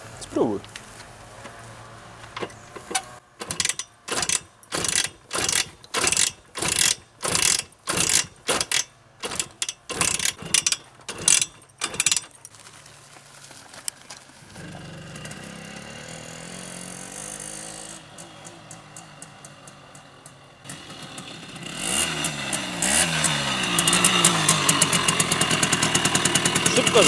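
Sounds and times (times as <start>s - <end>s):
scooter kickstart rasping: 2.4s - 12.8s, 14.4s - 27.0s.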